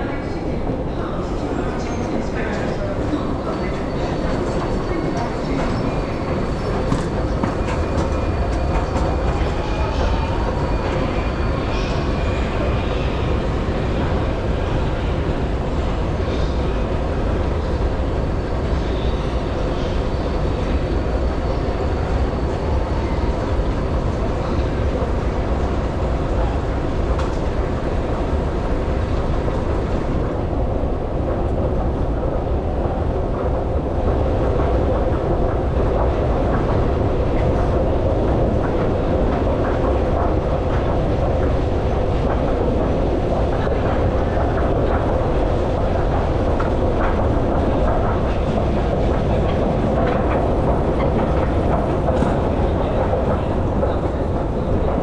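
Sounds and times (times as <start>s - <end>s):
metro train rumbling on rails: 0.0s - 55.0s.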